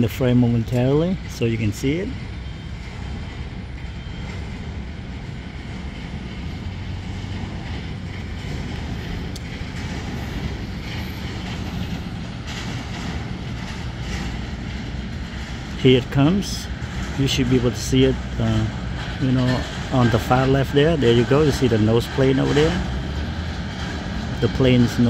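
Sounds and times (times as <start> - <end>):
airport background rumble and hiss: 0.0 - 25.0.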